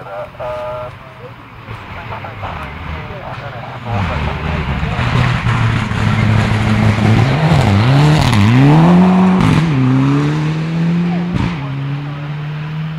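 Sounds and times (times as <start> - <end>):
rally car engine revving: 1.6 - 12.9.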